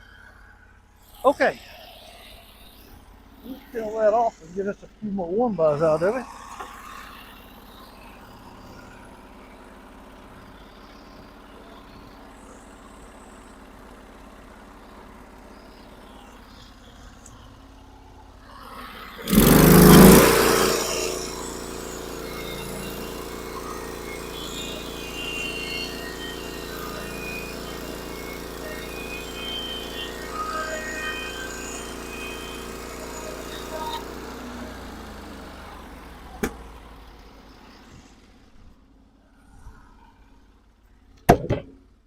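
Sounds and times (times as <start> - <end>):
sawmill engine idling and revving: 0.0 - 39.2.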